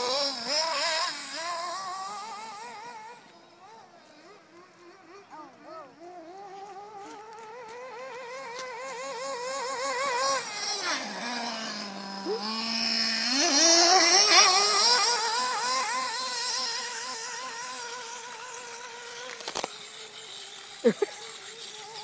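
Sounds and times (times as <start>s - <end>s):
toy car motor revving: 0.0s - 22.0s.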